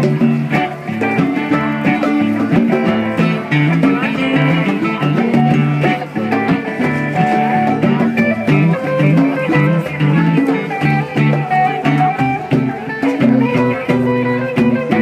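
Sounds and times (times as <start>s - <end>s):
hand drum strokes: 0.0s - 15.0s
low bass line: 0.0s - 15.0s
mandolin: 0.0s - 15.0s
plucked guitar: 0.0s - 15.0s.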